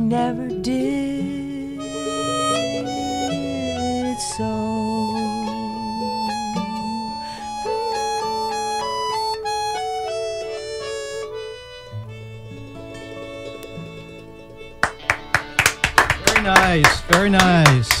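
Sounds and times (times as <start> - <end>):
acoustic folk music: 0.0 - 18.0
plucked guitar: 0.0 - 18.0
harmonica notes: 0.8 - 17.9.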